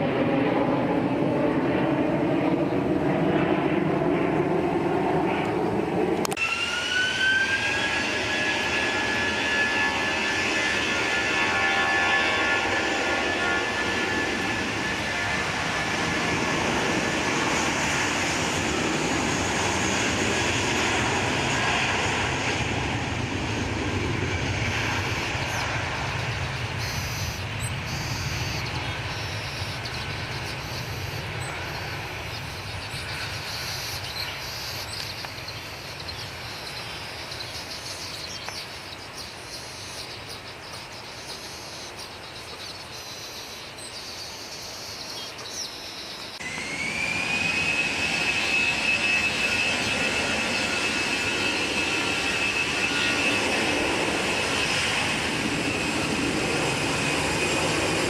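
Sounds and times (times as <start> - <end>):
jet engines roaring at takeoff: 0.0 - 58.0.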